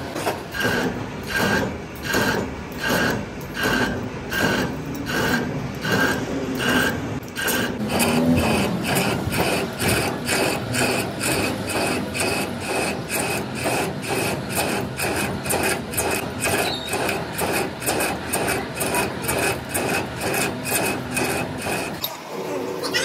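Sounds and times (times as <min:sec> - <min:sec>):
tool rasping on metal: 0:00.0 - 0:22.0.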